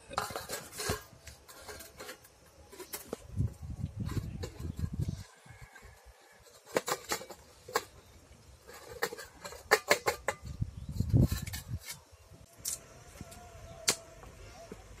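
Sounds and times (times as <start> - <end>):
metal plates clinking: 0.0 - 12.1.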